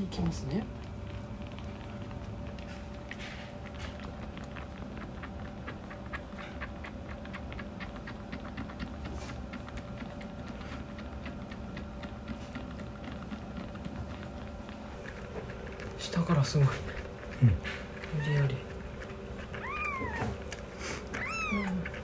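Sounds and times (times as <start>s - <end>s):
kitten sucking from a bottle: 0.0s - 22.0s.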